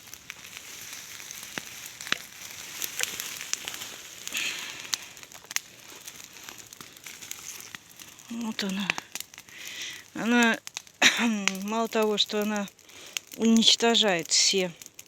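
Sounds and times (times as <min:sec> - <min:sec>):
bonfire hissing and crackling: 0:00.0 - 0:15.0.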